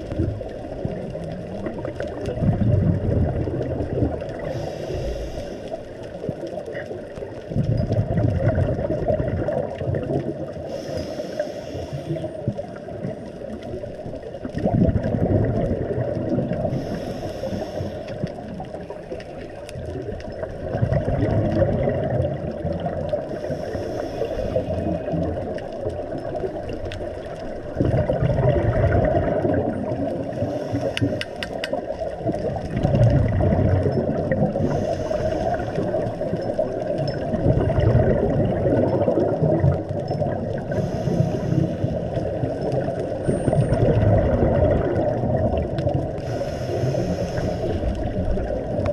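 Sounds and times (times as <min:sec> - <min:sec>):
scuba regulator bubbling: 0:00.0 - 0:48.9
underwater rumble of moving water: 0:00.0 - 0:48.9.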